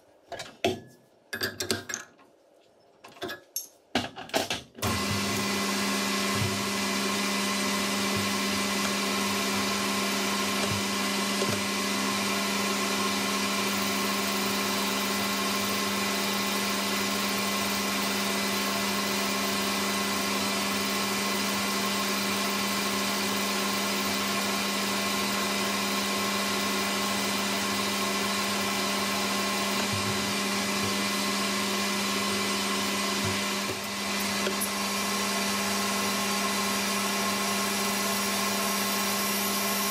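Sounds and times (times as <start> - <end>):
metal lathe humming and whining: 4.8 - 39.9.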